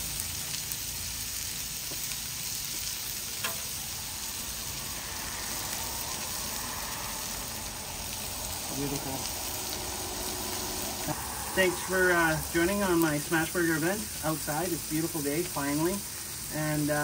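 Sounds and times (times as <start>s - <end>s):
burgers sizzling on griddle: 0.0s - 17.0s.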